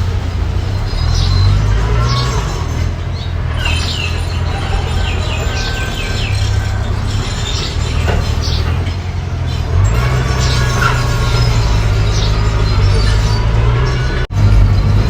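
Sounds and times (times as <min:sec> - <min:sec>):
engine rumbling: 0:00.0 - 0:15.0
bird chirping: 0:00.6 - 0:15.0.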